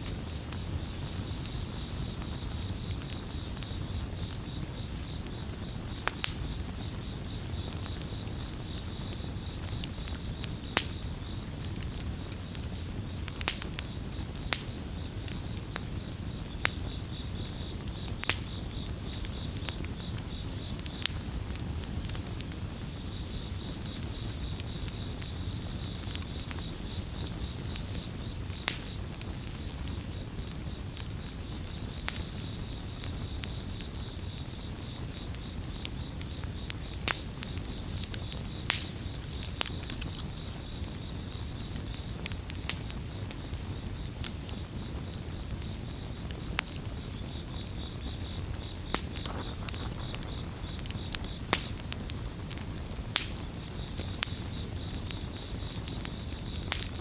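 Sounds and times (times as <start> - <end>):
campfire crackling and popping: 0.0 - 57.0
crickets chirping: 0.1 - 57.0.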